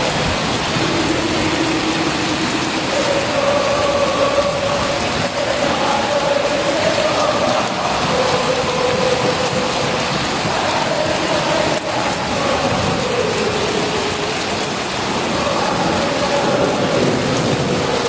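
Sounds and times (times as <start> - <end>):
heavy rain downpour: 0.0 - 18.0.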